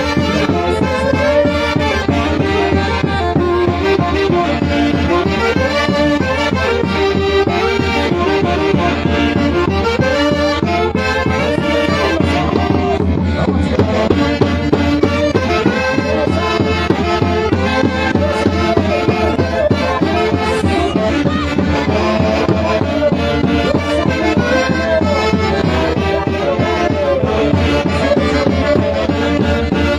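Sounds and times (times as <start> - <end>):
instrumental folk music: 0.0 - 29.9.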